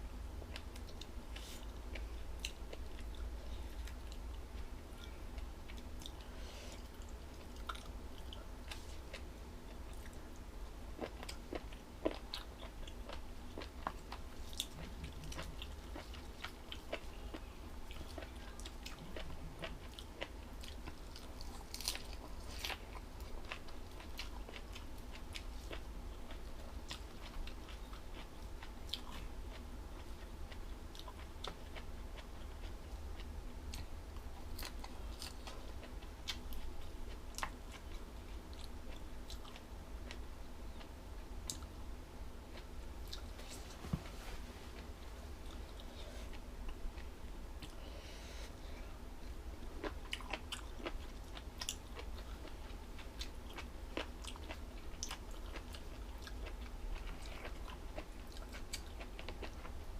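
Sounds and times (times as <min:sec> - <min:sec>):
low steady hum: 0:00.0 - 0:59.9
person chewing crunchy food: 0:00.4 - 0:10.3, 0:11.0 - 0:40.9, 0:49.6 - 0:59.9.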